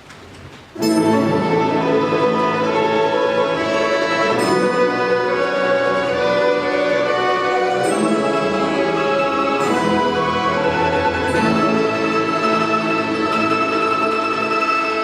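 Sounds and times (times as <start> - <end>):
folk instrument ensemble playing: 0.8 - 15.0.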